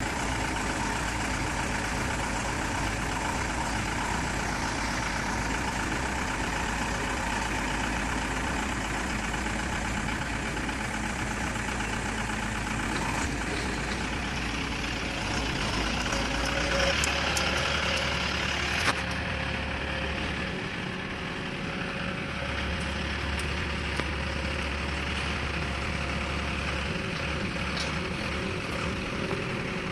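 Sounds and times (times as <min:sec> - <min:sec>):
drilling rig running: 0:00.0 - 0:29.9.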